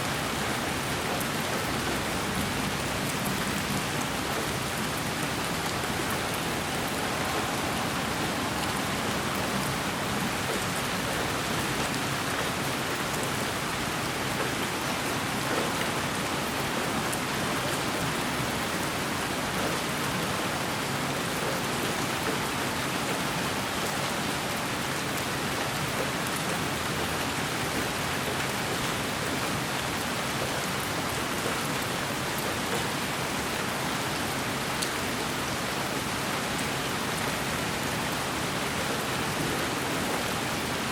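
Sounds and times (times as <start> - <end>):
rain-like white noise hiss: 0.0 - 40.9.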